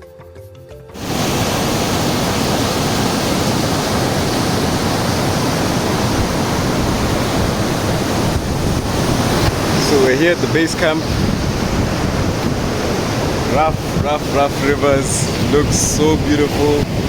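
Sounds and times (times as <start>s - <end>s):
rough water rushing: 1.0s - 17.0s.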